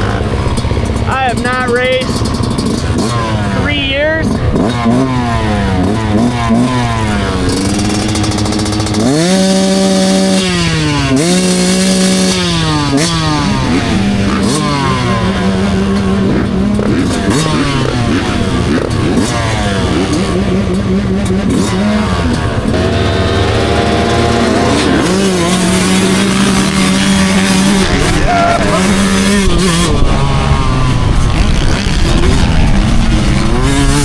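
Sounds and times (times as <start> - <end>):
dirt bike engine revving: 0.0 - 34.0
other motorbike engines: 0.0 - 34.0.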